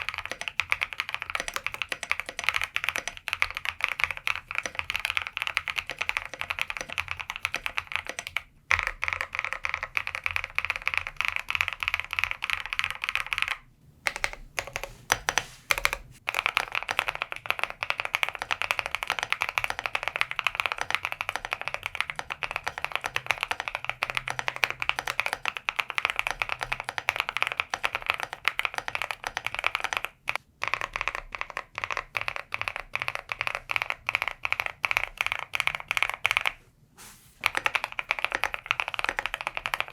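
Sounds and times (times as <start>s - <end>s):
fast mechanical keyboard typing: 0.0s - 36.6s, 37.4s - 39.9s.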